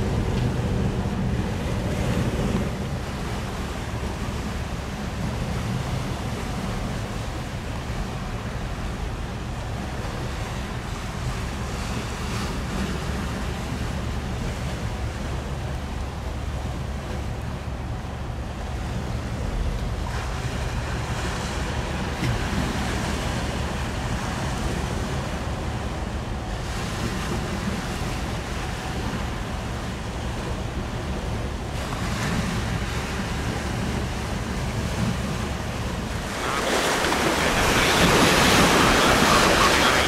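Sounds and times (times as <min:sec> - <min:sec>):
choppy river waves: 0:00.0 - 0:40.0.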